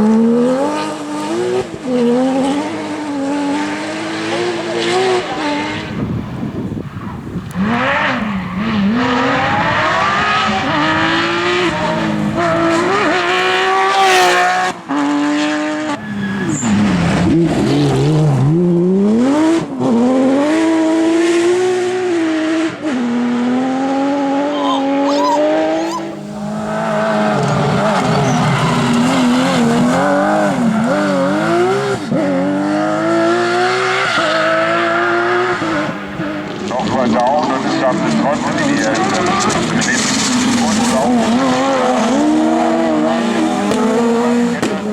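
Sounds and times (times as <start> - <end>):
rally car engine revving hard: 0.0 - 6.6, 7.4 - 44.9.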